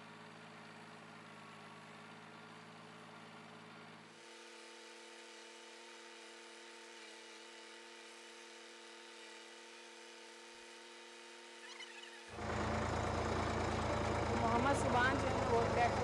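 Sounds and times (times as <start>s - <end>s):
faint tractor engine hum: 0.0s - 16.0s.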